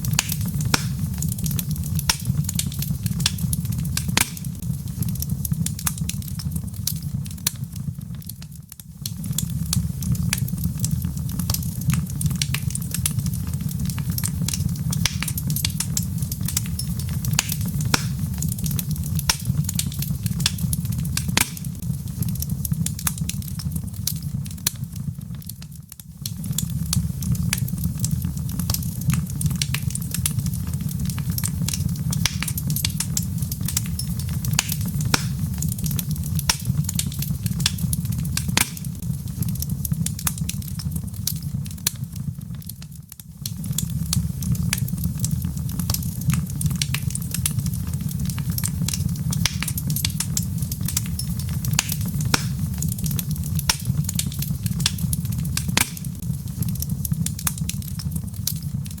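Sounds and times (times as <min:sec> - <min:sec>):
log fire crackling and popping: 0:00.0 - 0:59.0.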